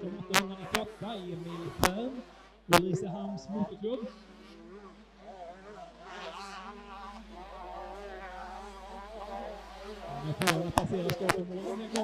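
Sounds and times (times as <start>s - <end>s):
motocross bike engines buzzing: 0.0s - 12.0s.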